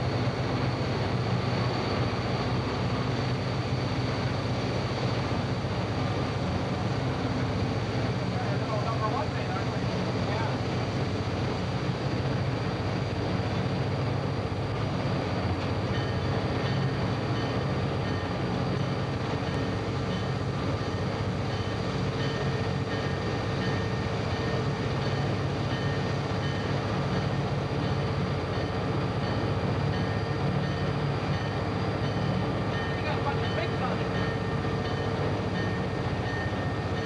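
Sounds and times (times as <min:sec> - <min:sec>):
locomotive engine drone: 0:00.0 - 0:37.0.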